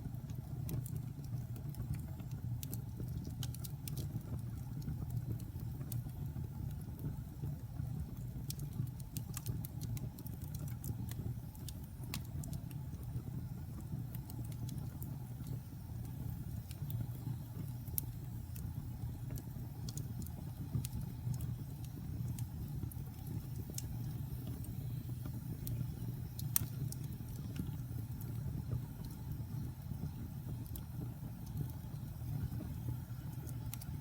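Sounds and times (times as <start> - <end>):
fire crackles and pops: 0.0 - 34.0
wood fire rumbling: 0.0 - 34.0.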